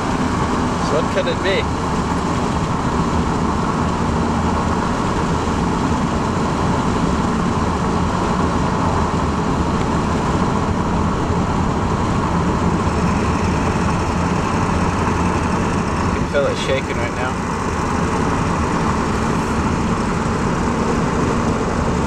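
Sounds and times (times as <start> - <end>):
diesel truck engine running: 0.0 - 22.0
road noise: 0.0 - 22.0.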